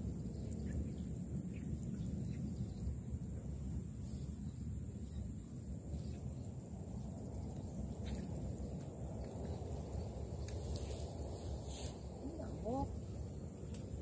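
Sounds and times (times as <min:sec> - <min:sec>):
high insect whine: 0:00.0 - 0:14.0
wind rumbling on microphone: 0:00.0 - 0:14.0.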